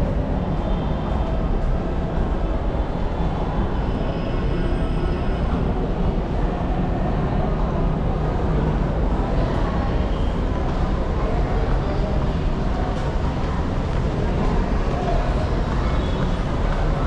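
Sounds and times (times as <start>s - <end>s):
heavy road traffic roar: 0.0s - 17.0s.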